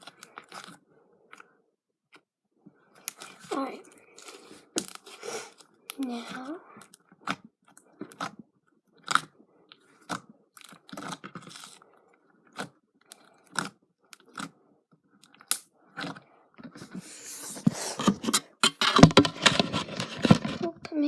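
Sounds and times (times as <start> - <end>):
slime squishing by hand: 0.0 - 1.5, 2.9 - 14.6, 15.2 - 20.7.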